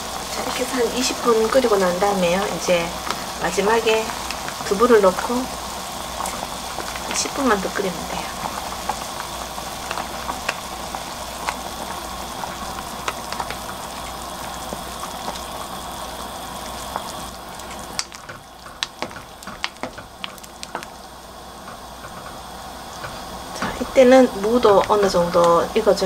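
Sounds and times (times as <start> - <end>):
soup boiling and bubbling: 0.0 - 26.0
wooden spoon stirring a pot: 0.3 - 26.0.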